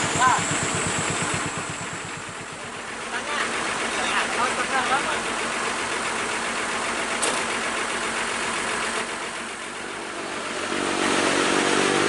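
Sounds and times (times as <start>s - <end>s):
road noise: 0.0s - 12.0s
truck diesel engine running: 0.0s - 12.0s.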